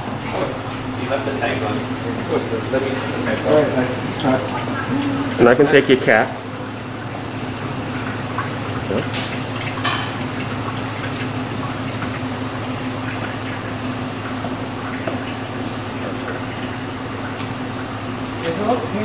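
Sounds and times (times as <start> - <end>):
kitchen machinery hum: 0.0 - 19.0.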